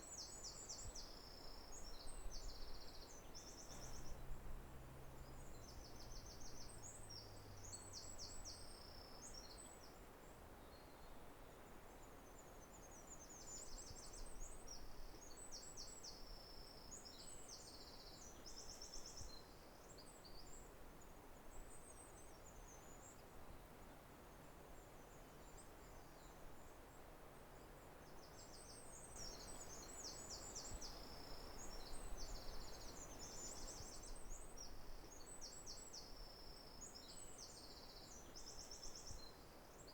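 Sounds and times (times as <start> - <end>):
soft background hiss: 0.0 - 39.9.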